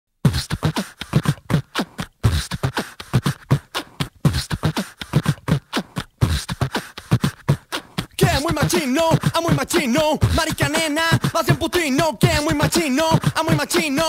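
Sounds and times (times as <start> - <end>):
beatboxing: 0.2 - 14.0.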